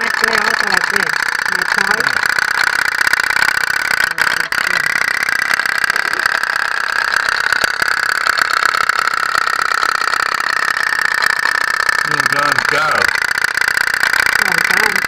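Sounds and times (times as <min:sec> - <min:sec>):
toy steam boat putt-putt rattle: 0:00.0 - 0:15.0.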